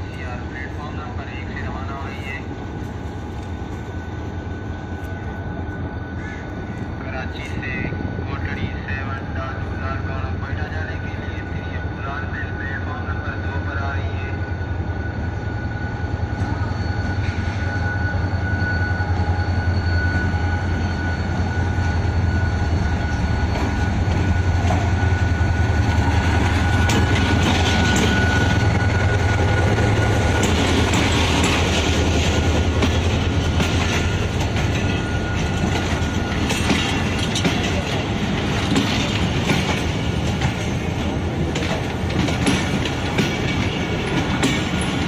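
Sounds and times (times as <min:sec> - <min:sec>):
locomotive engine drone with whine: 0:00.0 - 0:45.0.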